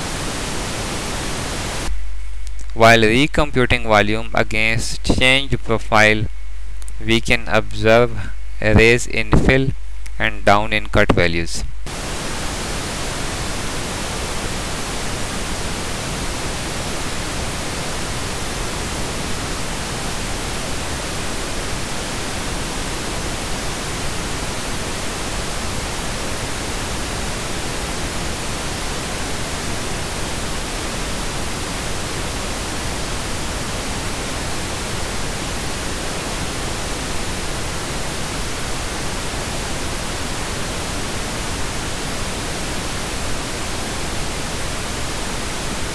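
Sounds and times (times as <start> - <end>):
steady hiss: 0.0 - 45.9.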